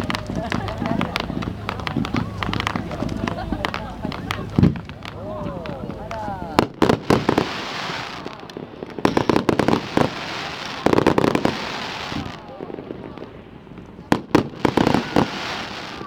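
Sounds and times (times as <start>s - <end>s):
crackling hiss: 0.0s - 16.0s
fireworks volleys of bangs: 0.0s - 16.0s.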